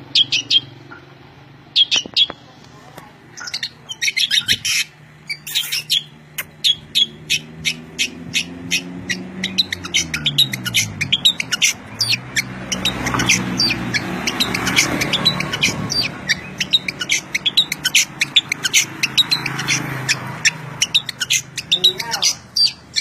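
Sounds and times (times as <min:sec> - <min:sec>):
songbird chirping rapidly: 0:00.0 - 0:23.0.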